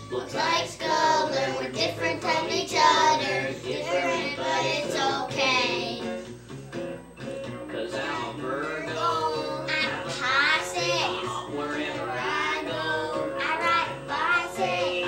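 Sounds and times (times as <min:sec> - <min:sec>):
girls singing: 0:00.0 - 0:06.2, 0:07.8 - 0:15.0.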